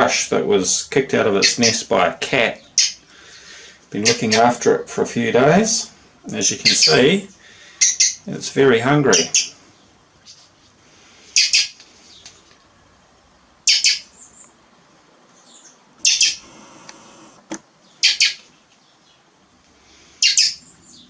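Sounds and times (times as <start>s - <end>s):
fledgling begging chirps: 1.2s - 12.5s, 13.4s - 14.6s, 15.3s - 16.8s, 17.8s - 21.0s.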